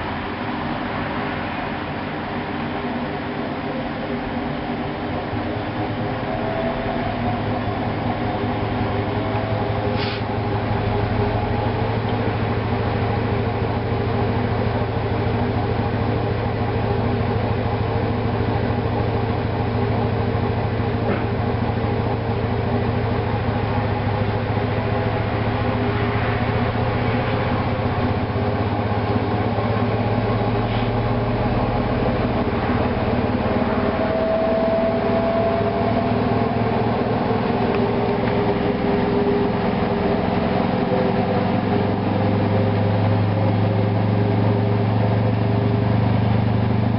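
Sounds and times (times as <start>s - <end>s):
washing machine running: 0.0s - 46.9s.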